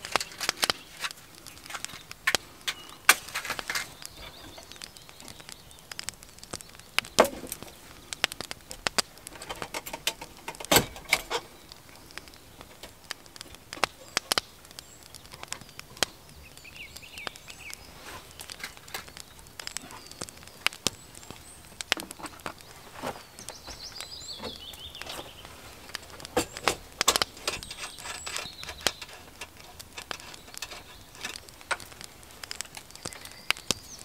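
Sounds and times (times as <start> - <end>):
faint bird chirps: 0.1 - 8.8, 13.7 - 26.7, 27.3 - 31.4, 32.4 - 34.0.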